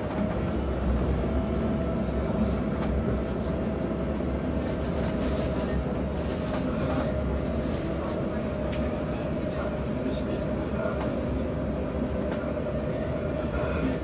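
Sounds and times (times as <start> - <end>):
tram low rumble: 0.0 - 14.0.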